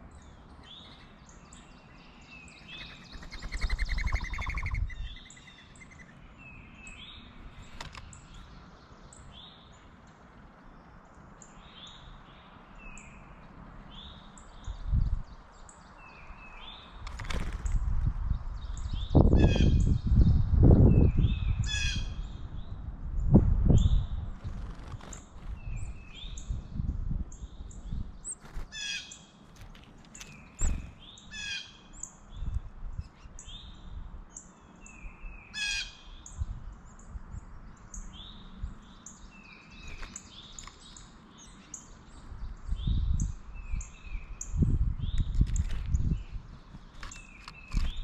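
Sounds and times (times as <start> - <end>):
birds chirping: 0.0 - 17.8, 23.8 - 48.0.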